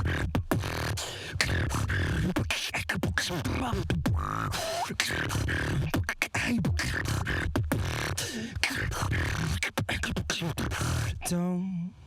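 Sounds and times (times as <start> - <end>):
person beatboxing: 0.0 - 11.4.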